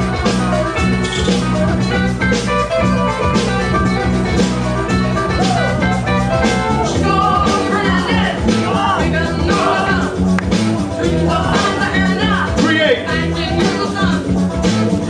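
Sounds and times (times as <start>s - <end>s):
loud music with drum beat: 0.0s - 15.0s
repeating bass line: 0.0s - 15.0s.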